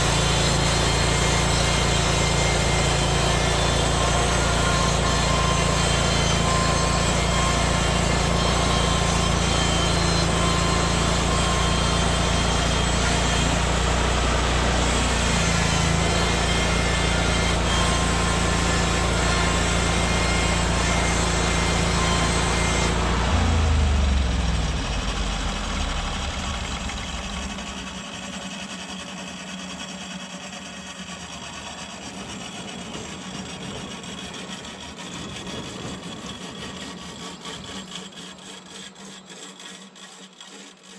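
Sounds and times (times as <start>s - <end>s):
band blade sawing through log: 0.0s - 40.9s
gas engine running: 0.0s - 40.9s.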